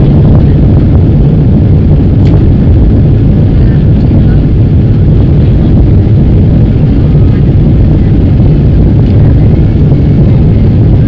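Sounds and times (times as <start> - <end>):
jet engines rumbling: 0.0 - 11.0
rushing air: 0.0 - 11.0.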